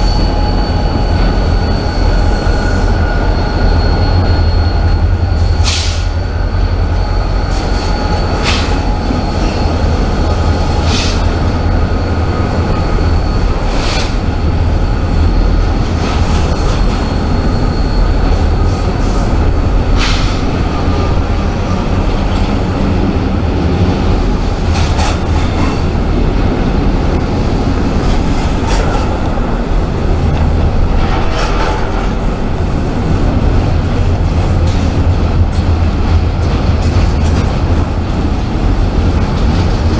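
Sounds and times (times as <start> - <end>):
freight train rumbling: 0.0 - 39.9
high wheel squeal: 0.0 - 39.9.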